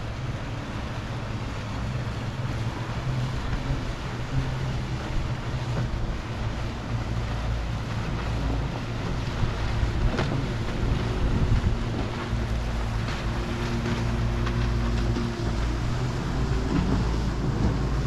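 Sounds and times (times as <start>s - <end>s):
motorboat engine running: 0.0s - 18.0s
waves washing against rocks: 0.0s - 18.0s
wind buffeting microphone: 0.0s - 18.0s.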